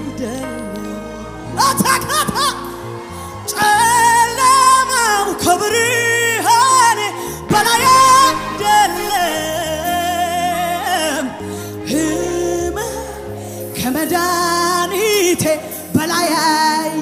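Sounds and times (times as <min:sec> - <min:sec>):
woman singing into a microphone: 0:00.0 - 0:02.7, 0:03.5 - 0:17.0
band through loudspeakers: 0:00.0 - 0:17.0.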